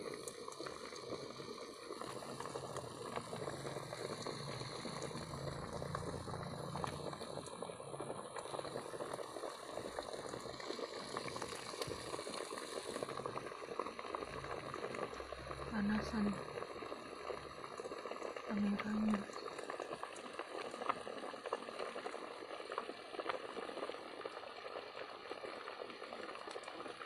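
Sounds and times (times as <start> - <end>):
water boiling in a pot: 0.0 - 27.0.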